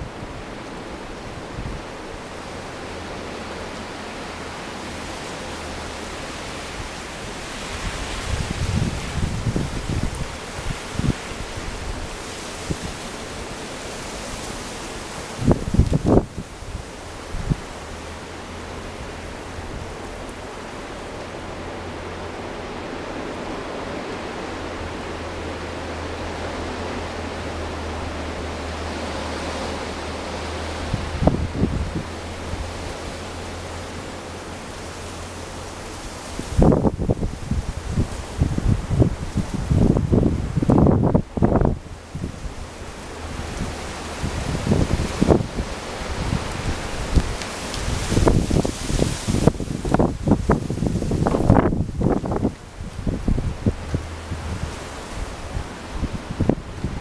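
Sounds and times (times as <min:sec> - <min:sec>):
blizzard wind through trees: 0:00.0 - 0:57.0.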